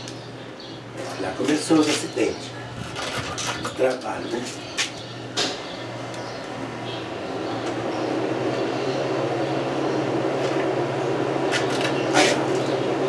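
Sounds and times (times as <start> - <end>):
low mechanical rumble with hum: 0.0 - 13.0.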